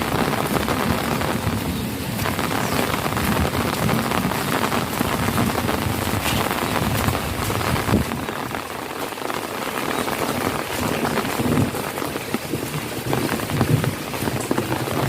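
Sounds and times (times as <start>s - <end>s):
heavy rain pouring onto puddles: 0.0s - 15.0s.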